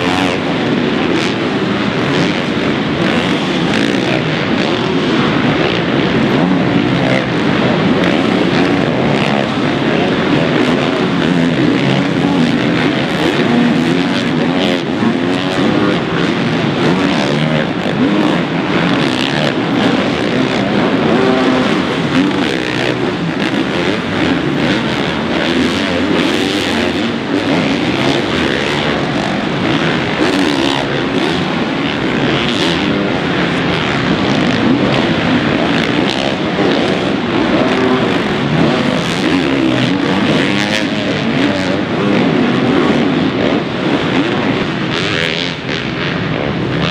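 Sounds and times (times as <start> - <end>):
motorbike engines revving: 0.0 - 46.9.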